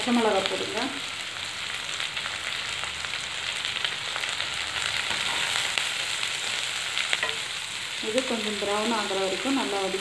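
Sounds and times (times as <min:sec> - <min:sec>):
onions frying in oil: 0:00.0 - 0:10.0.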